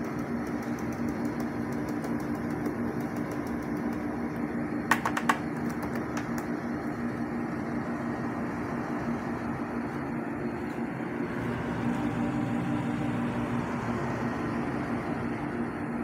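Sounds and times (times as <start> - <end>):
air conditioner fan rushing: 0.0 - 16.0.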